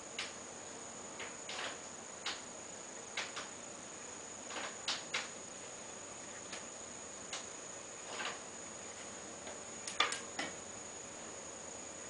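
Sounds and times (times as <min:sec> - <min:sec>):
air conditioner hiss and whine: 0:00.0 - 0:12.0.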